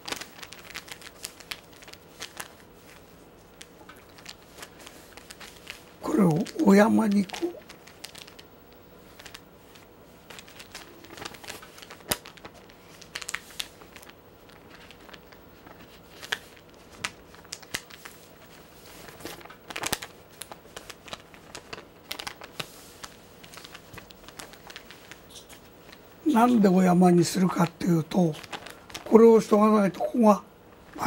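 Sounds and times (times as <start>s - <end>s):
paper crinkling and rustling: 0.0s - 29.9s.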